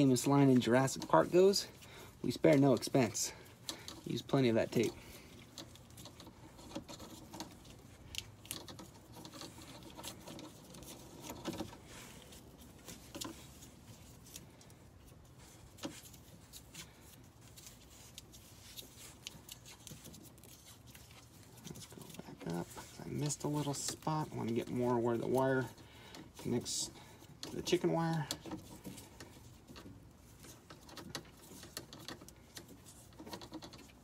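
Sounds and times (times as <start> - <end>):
tape peeling and crackling: 0.0 - 34.0.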